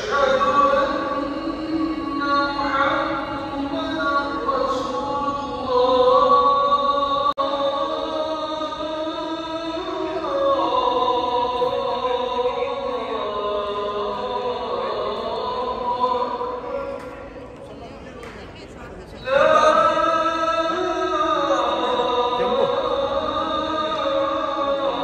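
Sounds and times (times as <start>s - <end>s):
person chanting: 0.0s - 17.3s, 19.2s - 25.0s.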